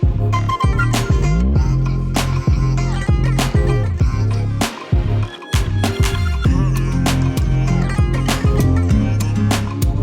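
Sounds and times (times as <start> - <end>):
background music with heavy bass: 0.0 - 10.0.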